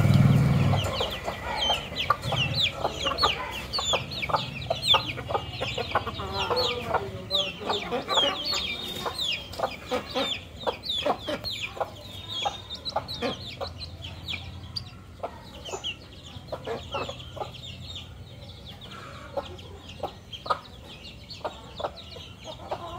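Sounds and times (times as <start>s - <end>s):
chickens clucking: 0.0s - 22.9s.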